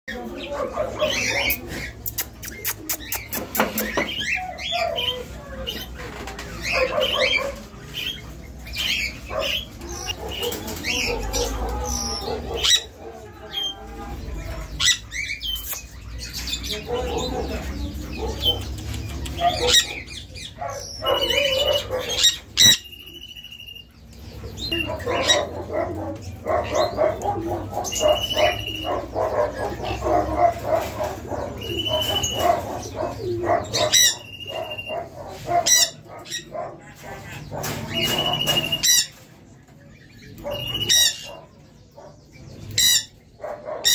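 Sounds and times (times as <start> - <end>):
bird calls: 0.1 - 43.9
parrots screeching: 0.4 - 17.8, 19.4 - 23.8, 24.6 - 25.6, 26.6 - 36.5, 37.2 - 39.3, 40.2 - 41.3, 42.7 - 43.9.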